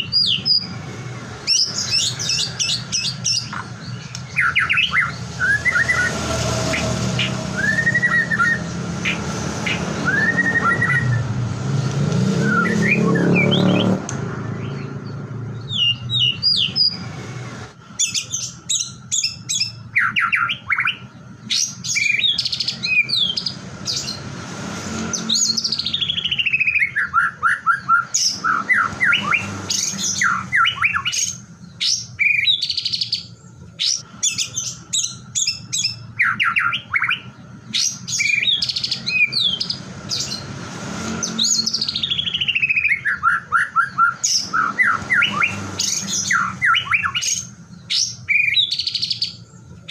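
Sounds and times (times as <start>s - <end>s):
bird singing whistled song: 0.0s - 0.7s, 1.4s - 11.3s, 12.3s - 15.0s, 15.6s - 17.0s, 18.0s - 24.2s, 25.1s - 40.4s, 41.1s - 49.9s.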